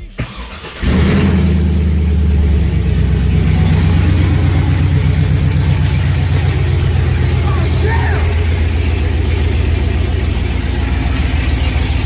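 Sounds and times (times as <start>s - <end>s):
vee eight engine idling loud: 0.3s - 12.0s.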